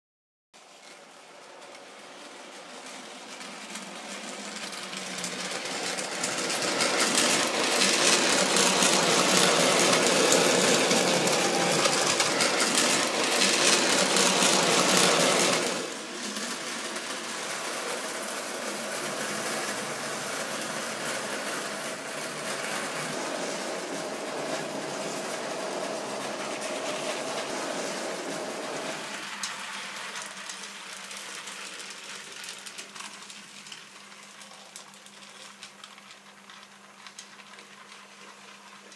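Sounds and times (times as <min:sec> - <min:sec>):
wheels rattling over rails: 0:00.7 - 0:33.8.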